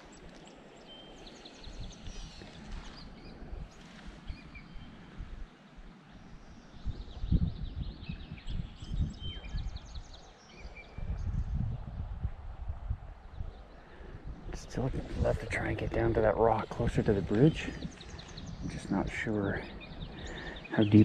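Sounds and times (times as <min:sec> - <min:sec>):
small birds chirping: 0:00.0 - 0:12.1, 0:13.3 - 0:21.0
wind rumbling on microphone: 0:00.0 - 0:21.0.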